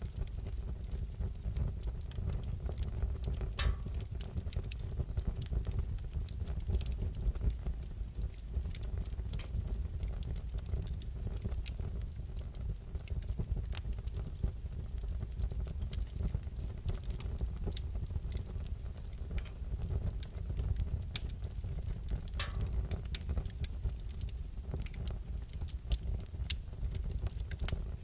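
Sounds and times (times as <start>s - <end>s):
wood fire crackling: 0.0s - 28.0s
whistling hiss from burning wood: 0.1s - 28.0s.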